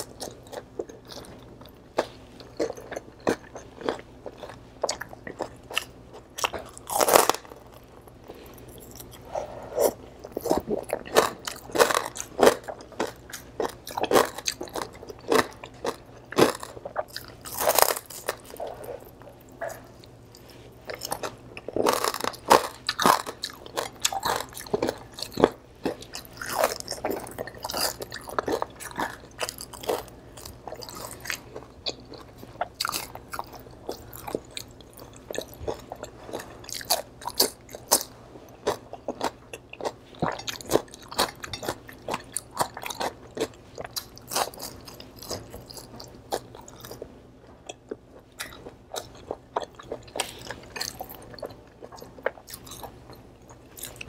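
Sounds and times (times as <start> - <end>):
chewing and crunching fried food: 0.0 - 54.0.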